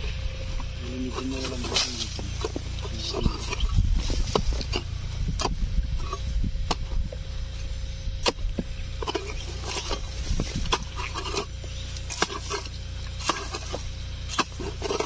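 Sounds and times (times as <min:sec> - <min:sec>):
stick scraping into soil: 0:00.0 - 0:07.0, 0:07.6 - 0:15.0
low rumble: 0:00.0 - 0:15.0.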